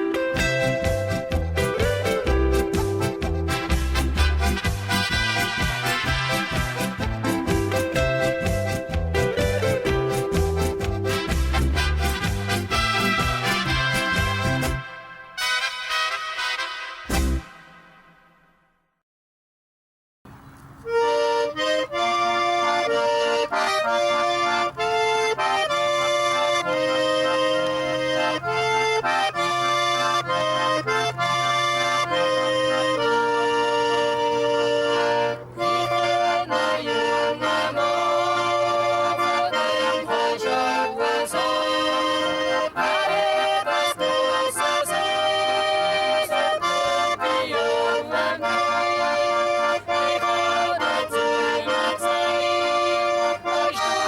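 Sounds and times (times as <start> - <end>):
accordion folk dance tune: 0.0 - 18.4, 20.8 - 54.0.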